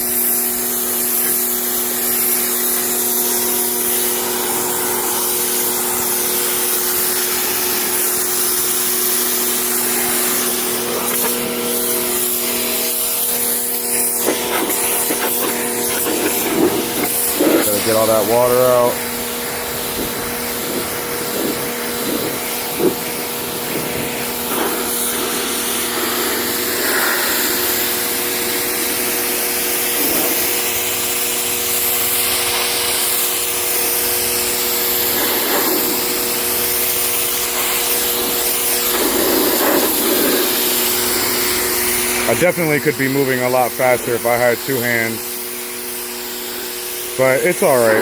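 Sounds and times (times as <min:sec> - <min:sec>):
wet dry vacuum running: 0:00.0 - 0:48.0.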